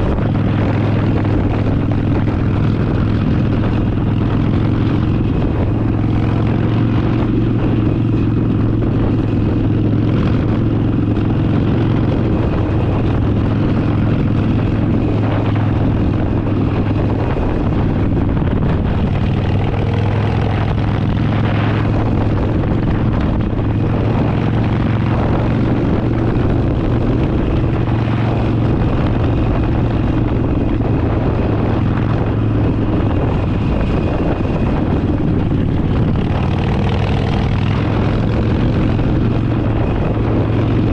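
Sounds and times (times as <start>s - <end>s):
motorcycle engine droning: 0.0s - 40.9s
wind rushing: 0.0s - 40.9s.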